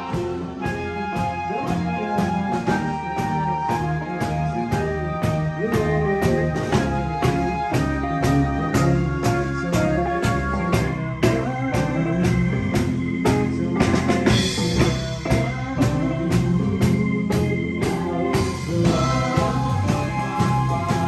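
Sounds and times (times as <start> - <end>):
drum kit steady beat: 0.0 - 21.0
live band playing: 0.0 - 21.0.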